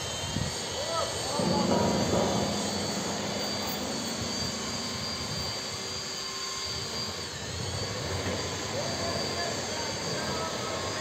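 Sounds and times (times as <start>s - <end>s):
faint high whine: 0.0s - 11.0s
machinery drone: 0.0s - 11.0s.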